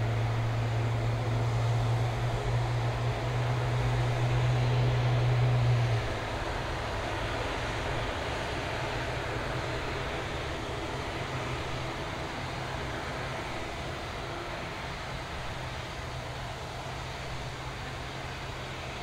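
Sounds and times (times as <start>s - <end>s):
constant rushing noise: 0.0s - 19.0s.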